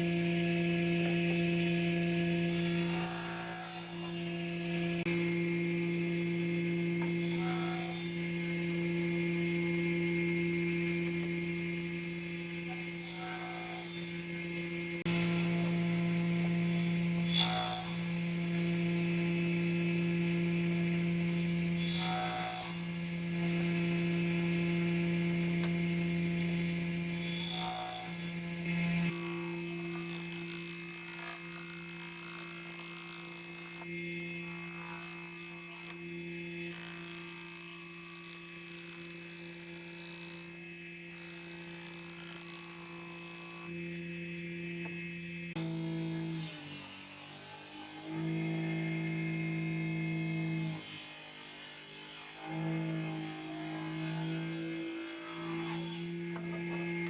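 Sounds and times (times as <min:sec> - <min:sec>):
electric motor hum: 0:00.0 - 0:46.4, 0:54.2 - 0:57.0.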